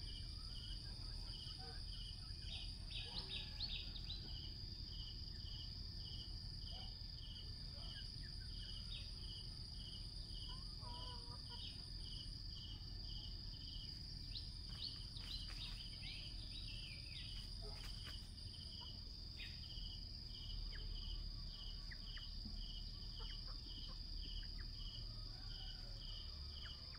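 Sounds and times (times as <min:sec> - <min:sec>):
insect chirping in pulses: 0:00.0 - 0:26.9.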